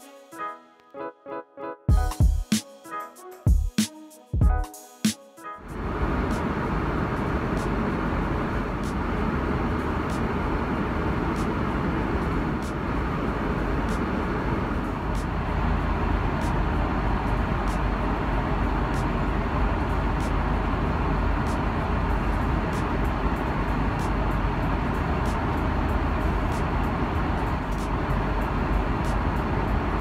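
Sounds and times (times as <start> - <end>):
airplane cabin engine rumble: 5.6 - 30.0.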